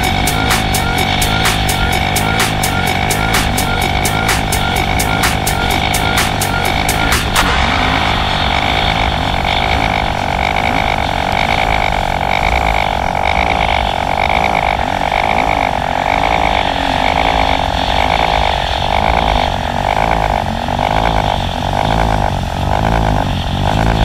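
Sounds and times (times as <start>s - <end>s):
jet ski engine whine: 0.0s - 24.0s.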